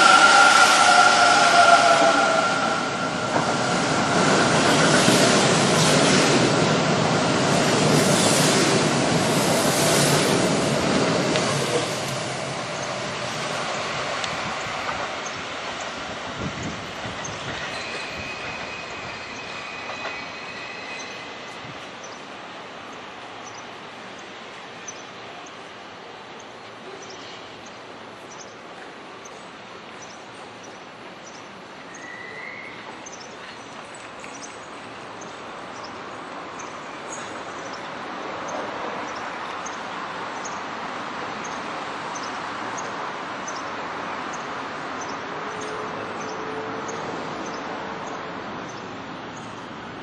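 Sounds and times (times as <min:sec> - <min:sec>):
electric train passing: 0:00.0 - 0:50.0.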